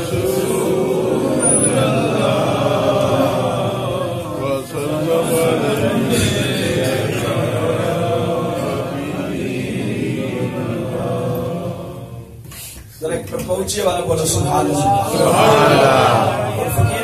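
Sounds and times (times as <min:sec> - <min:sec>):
man chanting through microphone: 0:00.0 - 0:17.0.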